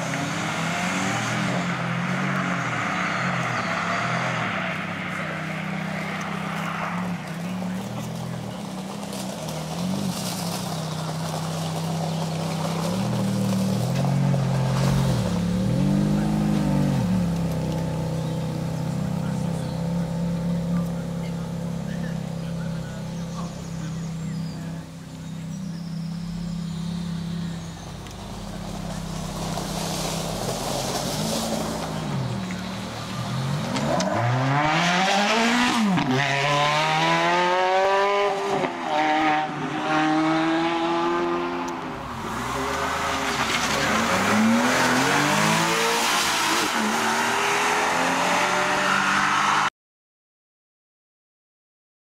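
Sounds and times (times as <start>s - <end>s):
sports car engine revving: 0.0s - 49.7s.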